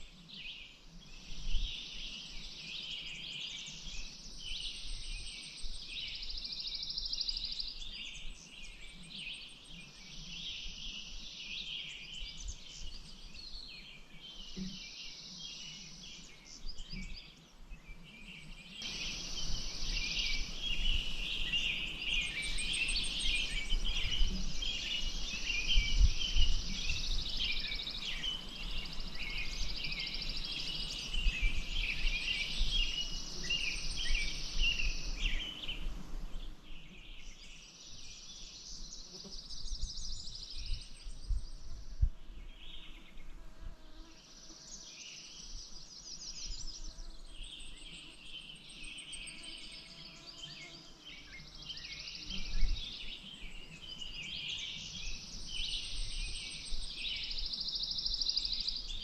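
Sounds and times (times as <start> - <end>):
songbirds singing and calling: 0.0 - 59.0.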